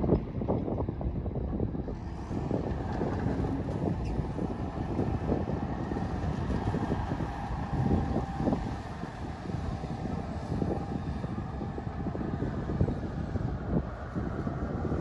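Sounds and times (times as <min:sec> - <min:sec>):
heavy diesel machinery rumbling: 0:02.0 - 0:15.0.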